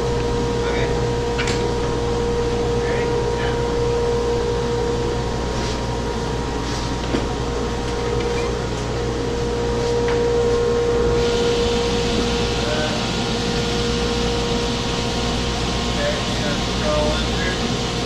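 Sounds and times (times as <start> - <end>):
workshop machinery droning: 0.0 - 18.0.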